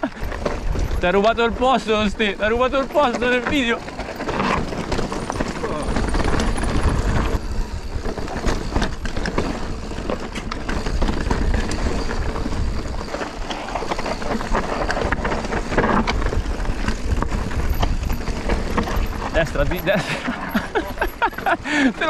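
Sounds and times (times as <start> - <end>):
bike rattling over rocks: 0.0 - 22.0
wind rumble on microphone: 0.0 - 22.0
tyres crunching over gravel: 0.1 - 22.0.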